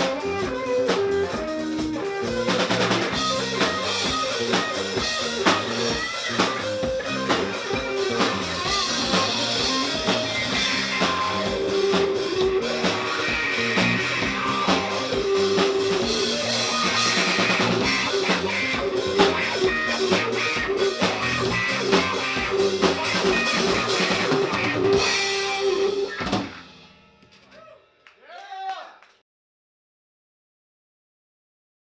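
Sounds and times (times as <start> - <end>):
guitar: 0.0 - 27.5
bass: 0.0 - 27.8
drum kit: 0.0 - 28.0.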